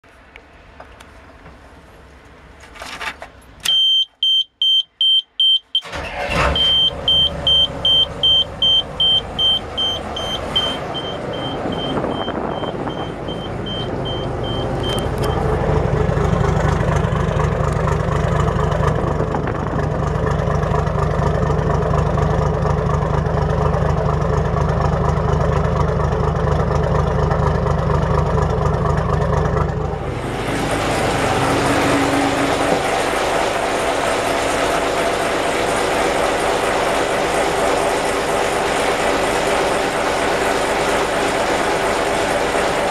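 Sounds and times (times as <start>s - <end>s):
boat engine starting and idling: 5.0s - 42.9s.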